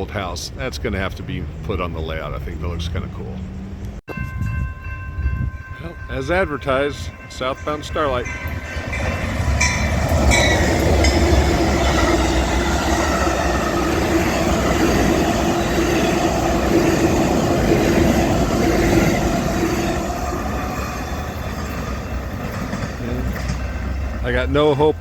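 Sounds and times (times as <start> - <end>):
diesel locomotive rumble: 0.0 - 25.0
train wheels whining: 3.5 - 25.0.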